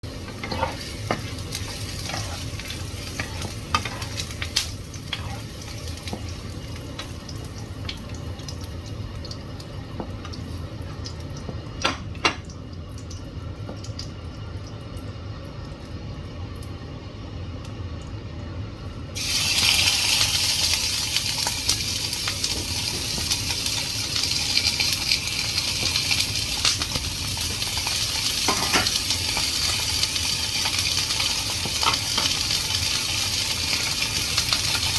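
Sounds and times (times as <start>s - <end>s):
food sizzling in hot oil: 0.0s - 12.4s, 19.2s - 34.9s.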